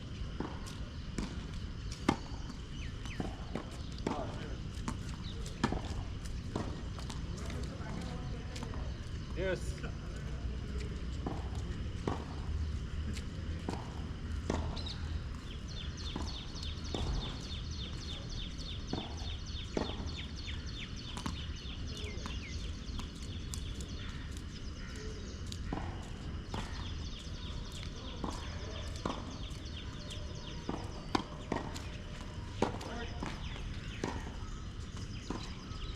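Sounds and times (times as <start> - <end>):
tennis balls struck and bouncing: 0.1 - 9.4, 10.2 - 35.9.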